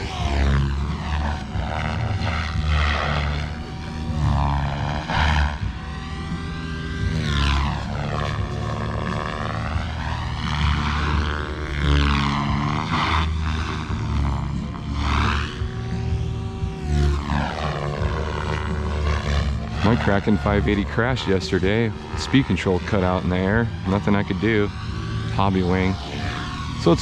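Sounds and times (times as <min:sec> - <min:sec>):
model helicopter rotor whine: 0:00.0 - 0:27.0.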